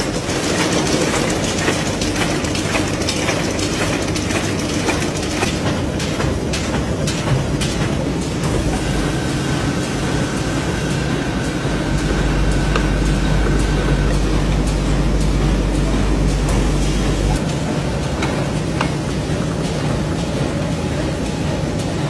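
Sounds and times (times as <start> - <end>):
machinery clattering: 0.0 - 22.0.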